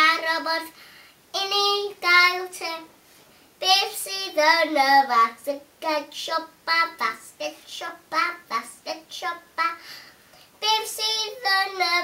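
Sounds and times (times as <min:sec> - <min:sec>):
girl singing: 0:00.0 - 0:03.0, 0:03.6 - 0:12.0.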